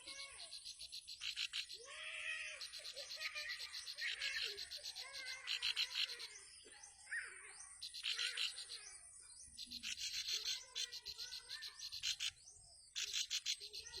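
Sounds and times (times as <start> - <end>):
bird calling in fast high notes: 0.0 - 14.0
soft bird chirps: 0.0 - 14.0.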